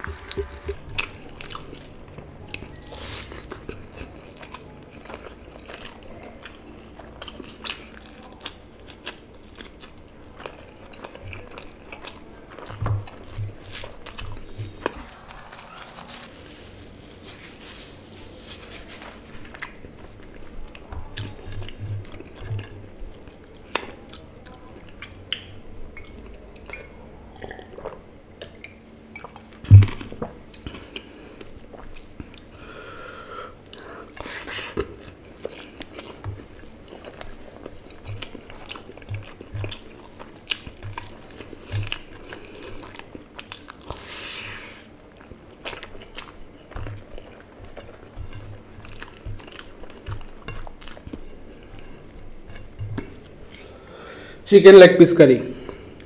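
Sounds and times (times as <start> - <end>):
wet chewing and lip smacks: 0.0 - 15.8, 19.5 - 53.7.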